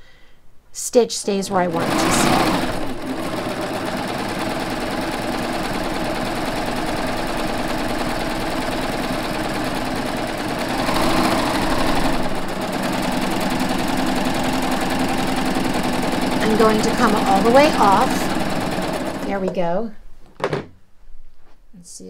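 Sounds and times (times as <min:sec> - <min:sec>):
serger running: 0:01.3 - 0:19.7.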